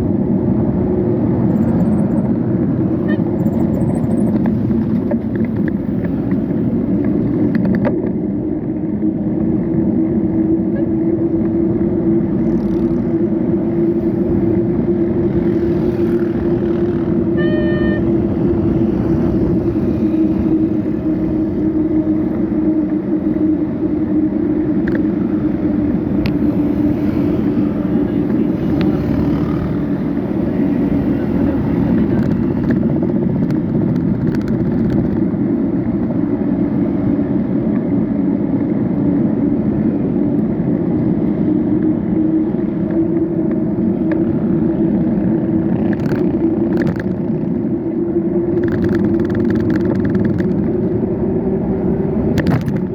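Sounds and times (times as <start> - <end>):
road and wind noise: 0.0 - 52.9
vehicle hum: 0.0 - 52.9.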